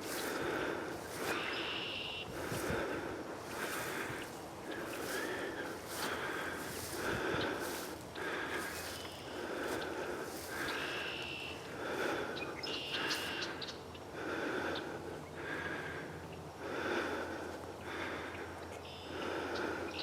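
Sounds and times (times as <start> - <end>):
person breathing heavily: 0.0 - 20.0.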